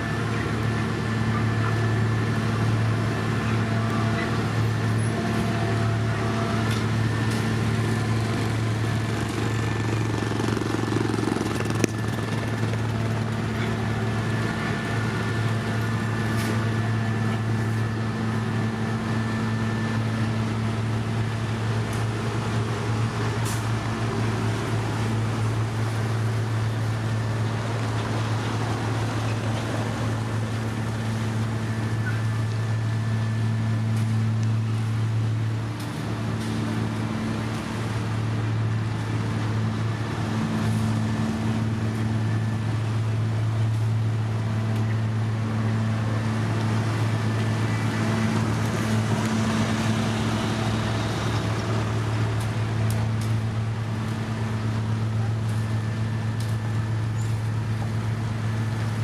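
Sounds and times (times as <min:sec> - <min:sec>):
heavy machinery engine droning: 0:00.0 - 0:59.0.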